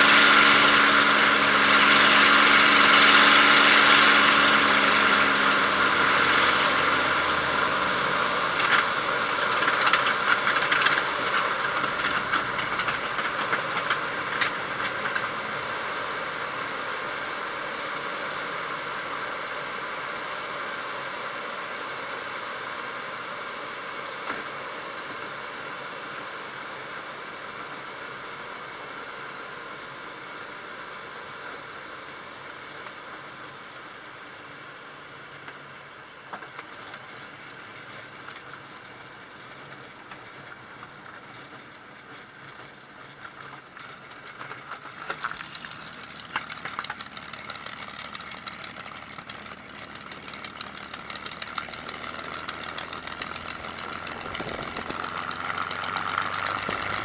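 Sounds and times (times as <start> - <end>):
aircraft engine throttled back: 0.0 - 57.0
high whine: 0.0 - 57.0.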